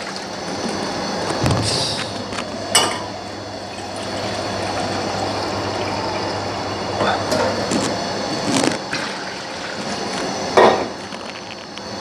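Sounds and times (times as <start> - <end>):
gas burner rushing hum: 0.0 - 12.0.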